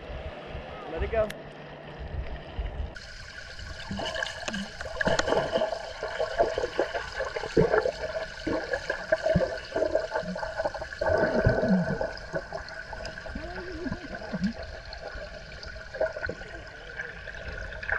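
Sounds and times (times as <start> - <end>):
steady hum: 0.0 - 17.9
underwater bubbling and gurgling: 1.4 - 17.9.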